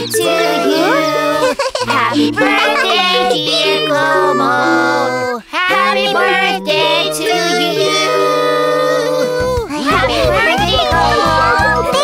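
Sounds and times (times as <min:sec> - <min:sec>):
child-like voice singing: 0:00.0 - 0:12.0
instrumental backing: 0:00.0 - 0:12.0.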